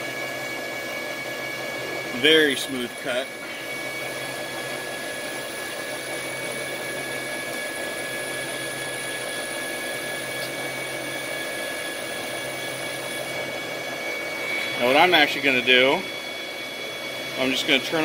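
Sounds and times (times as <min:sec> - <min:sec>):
lathe machine whir: 0:00.0 - 0:18.0.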